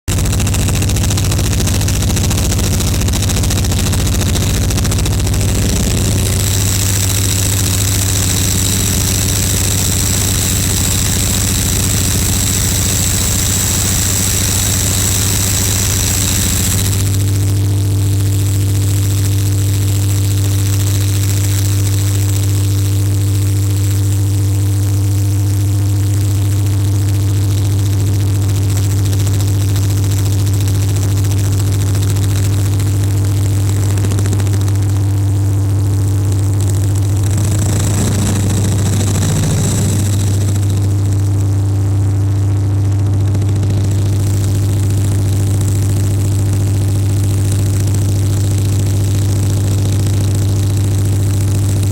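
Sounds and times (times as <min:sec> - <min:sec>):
diesel engine deep drone: 0:00.0 - 0:21.4, 0:30.6 - 0:51.9
high whine: 0:00.1 - 0:51.9.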